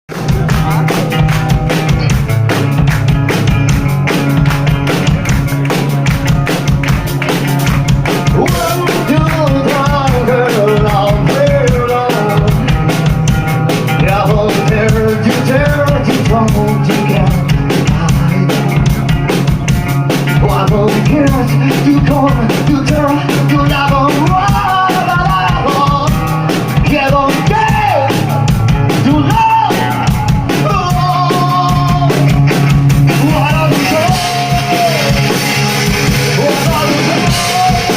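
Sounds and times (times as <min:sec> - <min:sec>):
live rock band playing: 0:00.1 - 0:37.9
vocal melody: 0:00.1 - 0:37.9.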